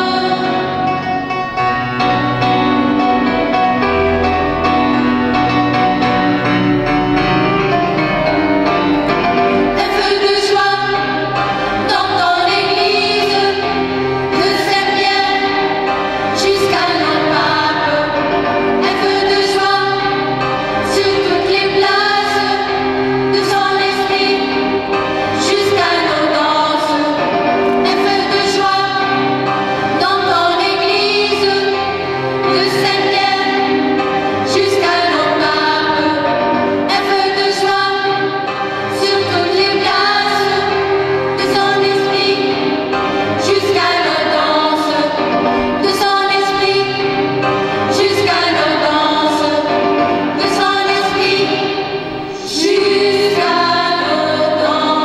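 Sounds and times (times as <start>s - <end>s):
female choir singing: 0.0s - 1.2s, 8.2s - 55.0s
instrumental accompaniment: 0.0s - 55.0s.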